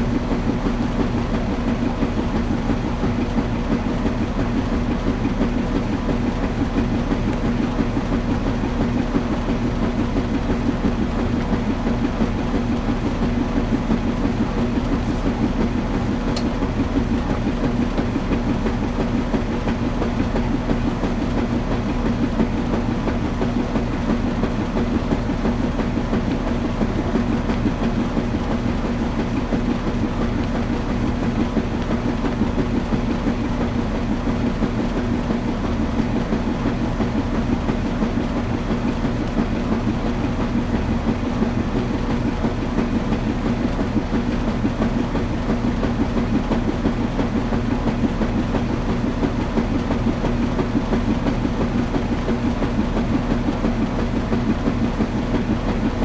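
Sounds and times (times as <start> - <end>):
washing machine humming and rattling: 0.0 - 56.0.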